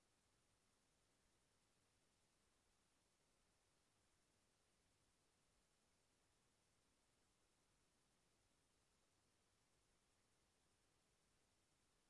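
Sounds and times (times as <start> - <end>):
faint electronic noise floor: 0.0 - 12.0.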